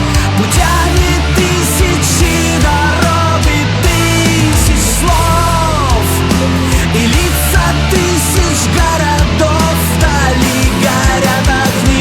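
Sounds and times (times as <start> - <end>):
bass and drums: 0.0 - 12.0
electric guitar lead: 0.0 - 12.0.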